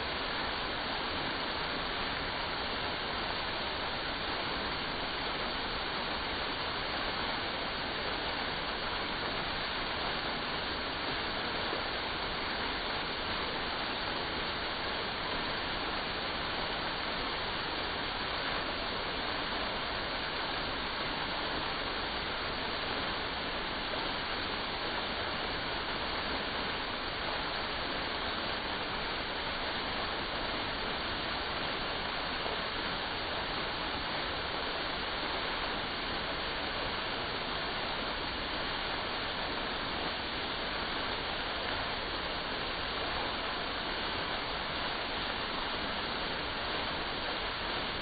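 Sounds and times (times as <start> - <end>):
waterfall splashing into pond: 0.0 - 48.0.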